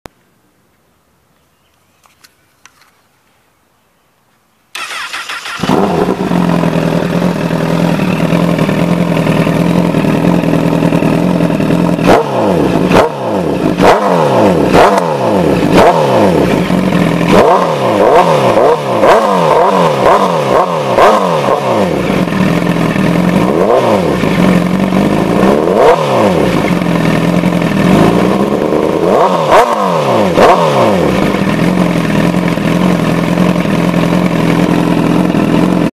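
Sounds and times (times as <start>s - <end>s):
motorcycle engine starting: 4.7s - 35.9s
motorcycle engine idling: 4.8s - 35.9s
motorcycle engine revving: 4.8s - 35.9s.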